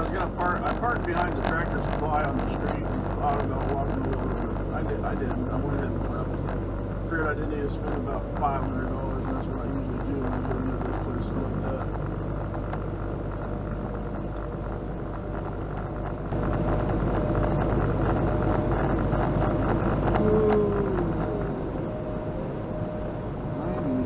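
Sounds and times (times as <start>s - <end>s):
road noise: 0.0s - 24.0s
truck diesel engine rumble: 0.0s - 24.0s.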